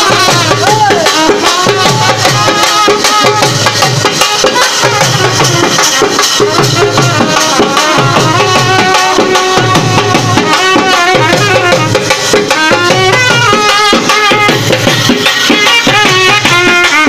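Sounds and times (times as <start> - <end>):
barrel drum beat: 0.0 - 17.0
snare drum: 0.0 - 17.0
trumpet playing folk melody: 0.0 - 17.0.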